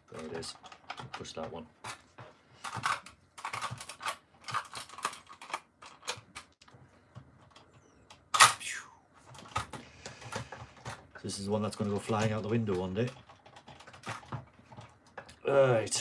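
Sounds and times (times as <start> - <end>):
plastic toy clicking and knocking: 0.2 - 2.0, 2.6 - 8.3, 9.3 - 15.4.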